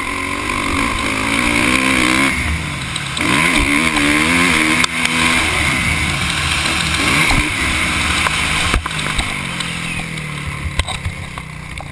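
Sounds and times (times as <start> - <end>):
motocross engine revving: 0.0 - 11.9.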